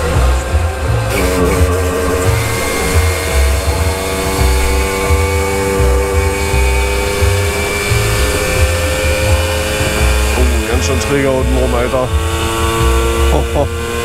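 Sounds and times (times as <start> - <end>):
moped engine high revs whine: 0.0 - 14.0
uneven low thumping: 0.1 - 13.7.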